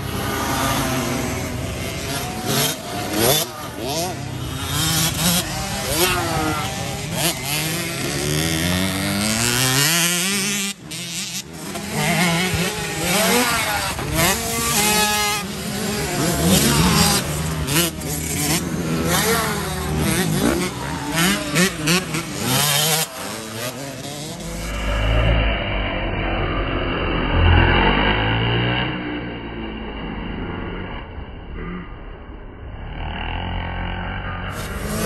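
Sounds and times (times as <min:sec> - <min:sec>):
motocross engines revving: 0:00.0 - 0:35.0.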